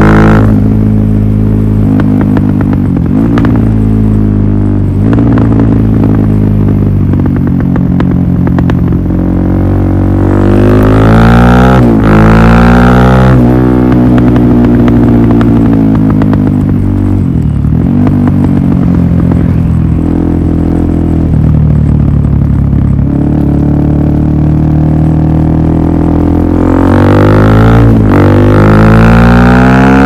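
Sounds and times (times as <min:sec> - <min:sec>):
motorcycle engine droning: 0:00.0 - 0:30.0.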